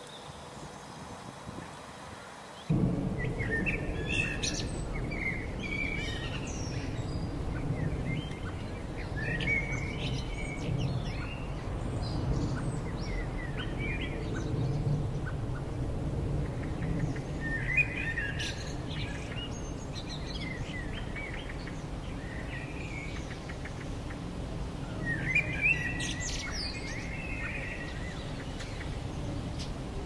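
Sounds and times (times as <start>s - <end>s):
birds chirping: 0.0s - 30.0s
low background noise: 0.0s - 30.0s.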